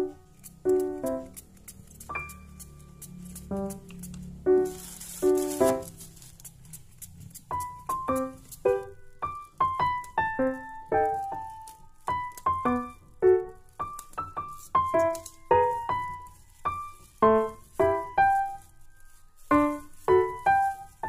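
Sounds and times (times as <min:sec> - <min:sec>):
gentle piano melody: 0:00.0 - 0:06.4, 0:07.3 - 0:21.0.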